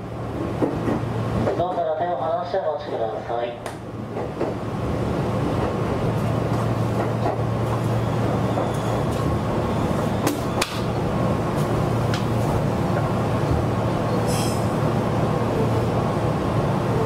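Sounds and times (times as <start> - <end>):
electric train running hum: 2.5 - 17.0.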